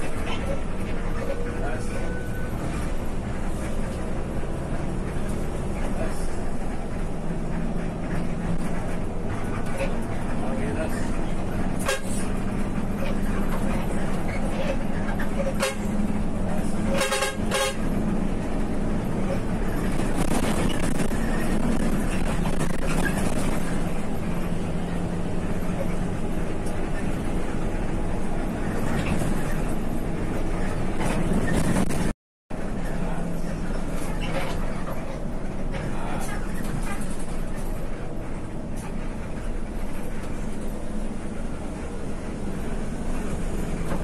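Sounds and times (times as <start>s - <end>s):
bus engine hum and road noise: 0.0s - 44.0s.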